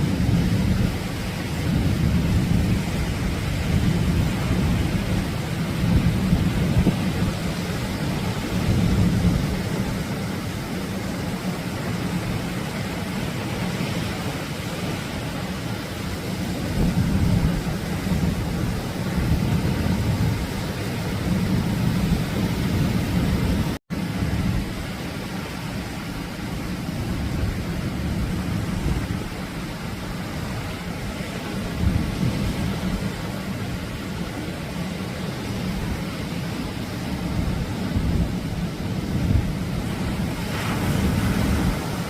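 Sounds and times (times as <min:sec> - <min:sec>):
surf breaking on beach: 0:00.0 - 0:42.0.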